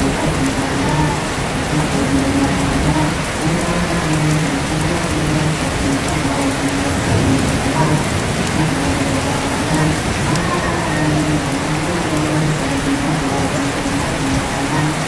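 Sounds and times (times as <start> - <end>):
low voice chanting: 0.0 - 15.0
steady rain falling: 0.0 - 15.0.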